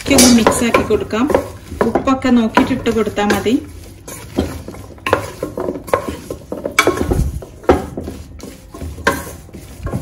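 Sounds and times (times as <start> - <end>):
vegetables stirred in a frying pan: 0.0 - 10.0.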